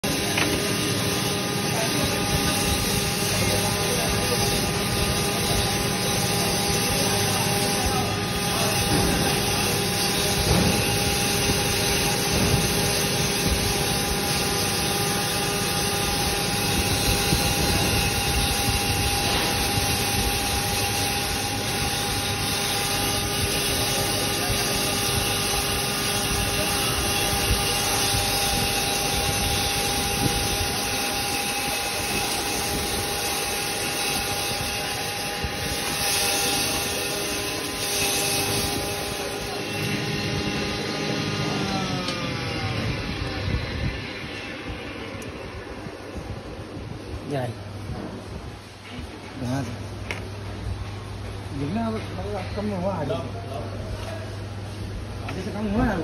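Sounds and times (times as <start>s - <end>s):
grinder humming and whining: 0.0s - 56.0s.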